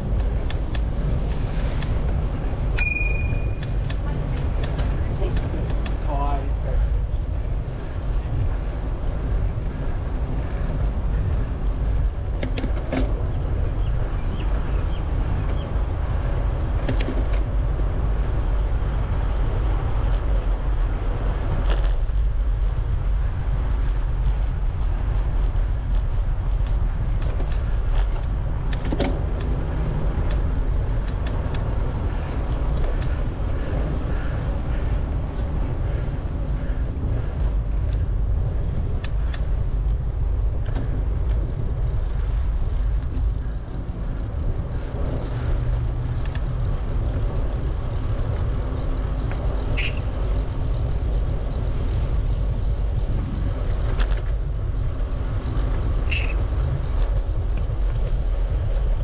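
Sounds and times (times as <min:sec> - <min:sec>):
bicycle clicks and rattles: 0:00.0 - 0:59.0
road rumble: 0:00.0 - 0:59.0
wind on microphone: 0:00.0 - 0:59.0.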